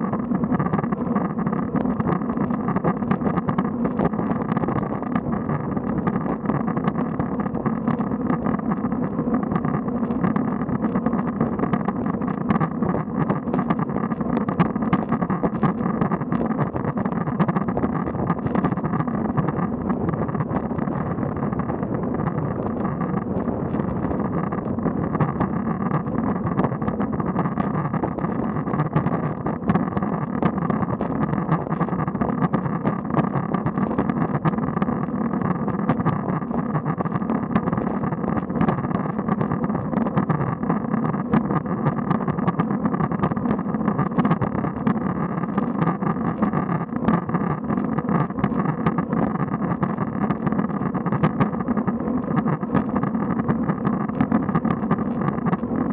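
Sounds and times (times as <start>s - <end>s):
faint clicks: 0.0s - 55.9s.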